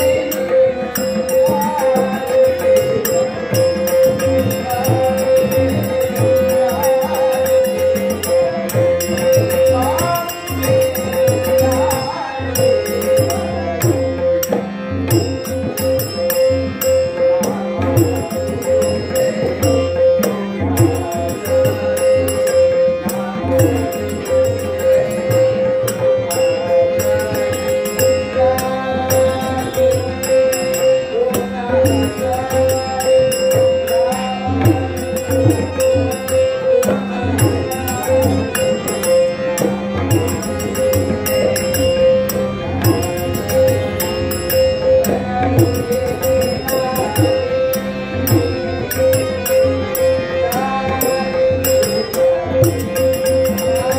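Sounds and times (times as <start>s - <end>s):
harmonium: 0.0s - 53.9s
man singing: 0.0s - 53.9s
tabla: 0.0s - 53.9s.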